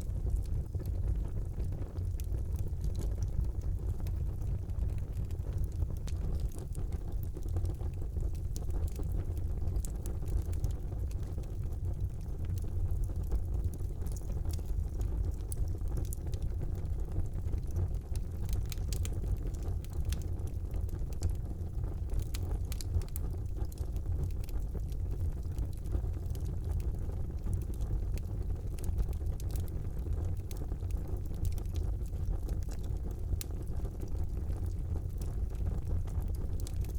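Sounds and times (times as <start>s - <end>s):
fire crackles and pops: 0.0s - 36.9s
fire flames rumbling: 0.0s - 36.9s.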